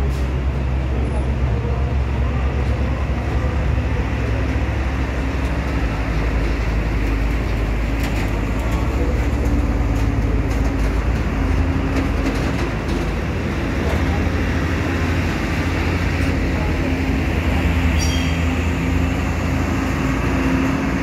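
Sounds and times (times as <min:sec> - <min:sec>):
heavy truck driving past: 0:00.0 - 0:21.0.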